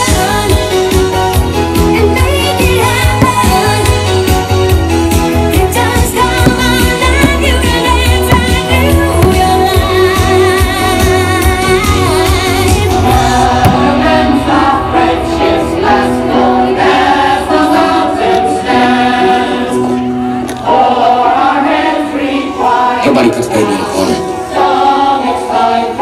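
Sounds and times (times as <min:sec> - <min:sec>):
choir-like singing with music: 0:00.0 - 0:26.0.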